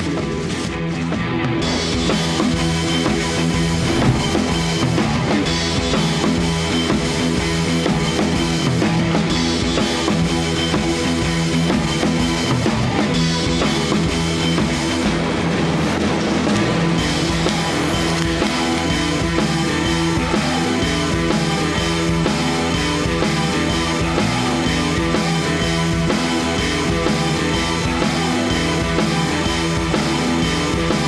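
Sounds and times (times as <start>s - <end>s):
rock music with drums and guitar: 0.0s - 31.0s.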